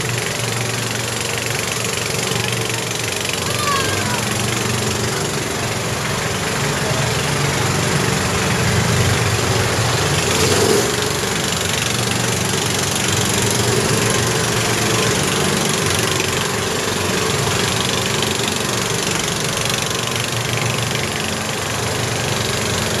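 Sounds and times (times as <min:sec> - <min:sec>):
buggy engine running: 0:00.0 - 0:23.0
constant rushing noise: 0:00.0 - 0:23.0.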